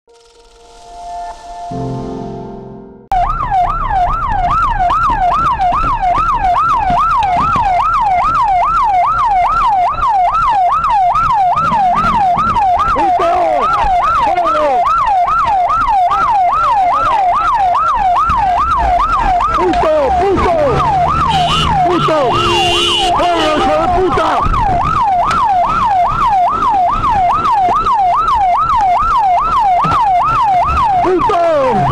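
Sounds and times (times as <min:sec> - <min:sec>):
low vehicle rumble: 0:02.5 - 0:31.0
emergency siren yelping: 0:03.1 - 0:31.9.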